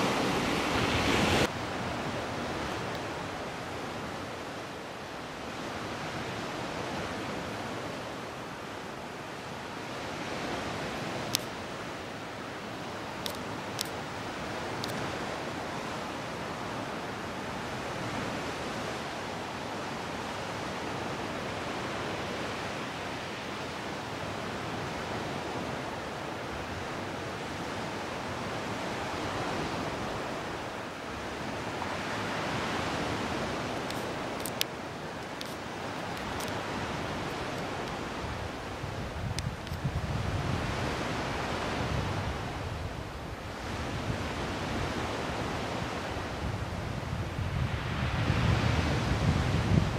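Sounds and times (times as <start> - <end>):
sea surf washing on shore: 0.0 - 49.9
wind: 0.0 - 49.9.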